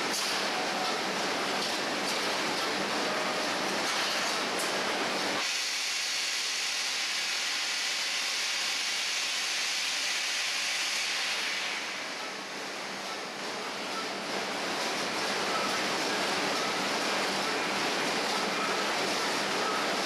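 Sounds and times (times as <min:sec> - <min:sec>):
production line machinery hiss: 0:00.0 - 0:20.0.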